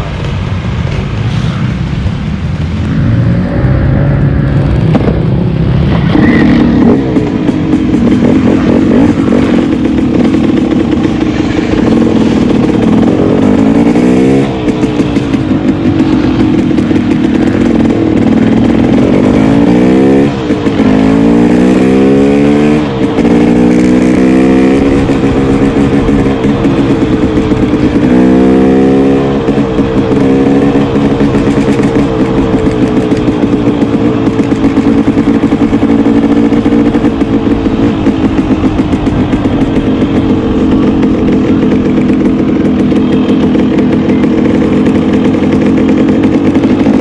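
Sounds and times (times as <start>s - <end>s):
dirt bike engine revving: 1.2s - 47.0s.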